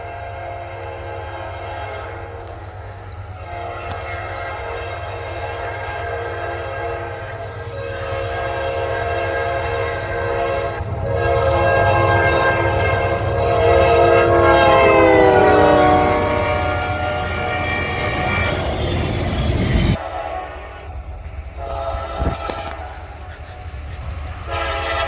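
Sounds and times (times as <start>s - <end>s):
locomotive air horn chord: 0.0s - 25.0s
train rumble: 0.0s - 25.0s.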